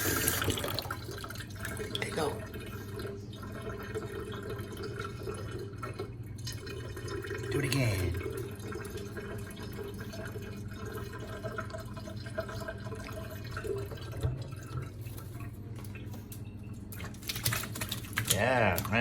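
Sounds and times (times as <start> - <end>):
tap water trickling into sink: 0.0 - 19.0.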